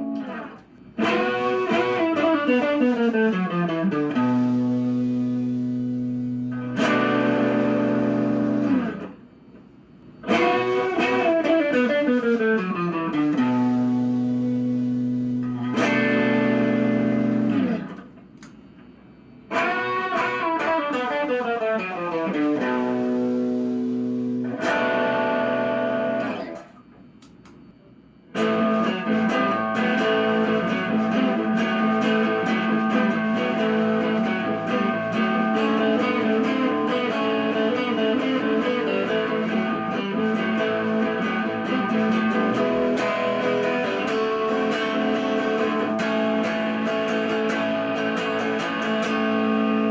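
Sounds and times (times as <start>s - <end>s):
electric guitar chords: 0.0s - 9.3s, 10.2s - 18.6s, 19.4s - 27.5s, 28.3s - 49.9s.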